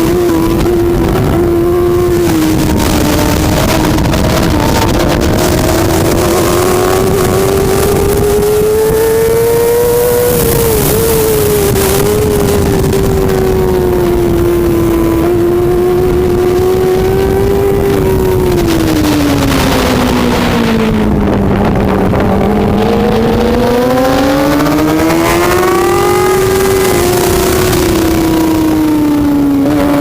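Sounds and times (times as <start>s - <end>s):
superbike engine revving: 0.0s - 30.0s.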